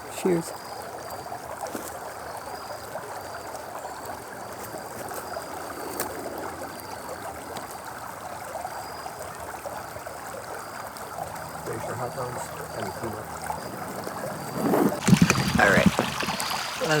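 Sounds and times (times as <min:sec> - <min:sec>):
stream water gurgling: 0:00.0 - 0:17.0.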